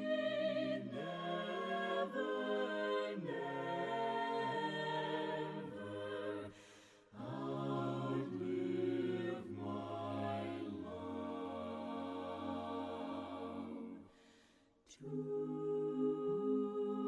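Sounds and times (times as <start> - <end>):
voices singing a cappella hymn: 0.0 - 17.0.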